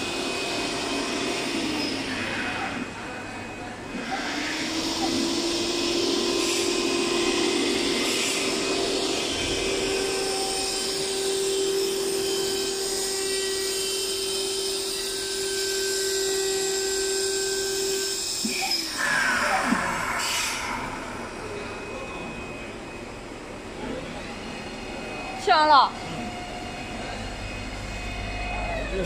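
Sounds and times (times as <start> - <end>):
milling spindle whine: 0.0 - 29.0.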